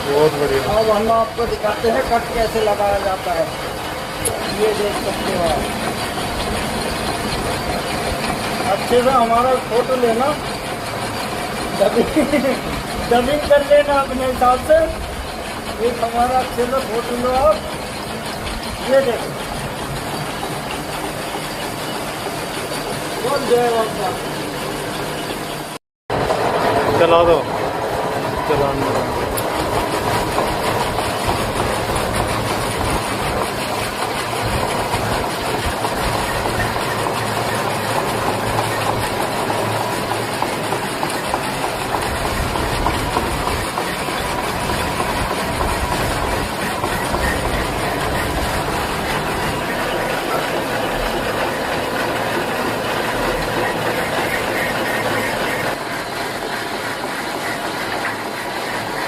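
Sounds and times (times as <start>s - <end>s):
metal lathe cutting: 0.0s - 59.0s.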